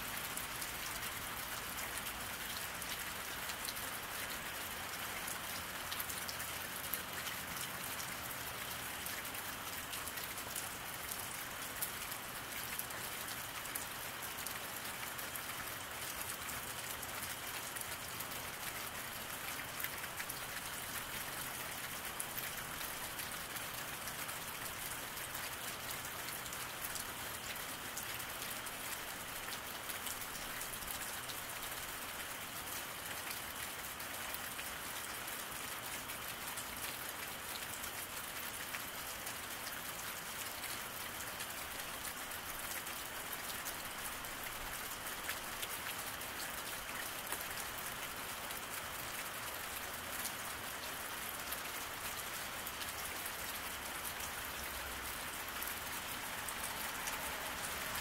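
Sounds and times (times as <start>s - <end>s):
rain falling on wet road: 0.0s - 58.0s.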